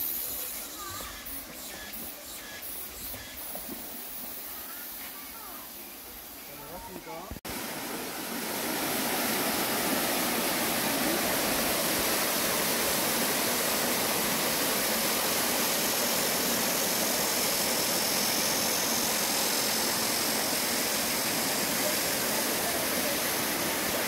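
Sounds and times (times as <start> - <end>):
waterfall rushing: 4.4 - 24.0.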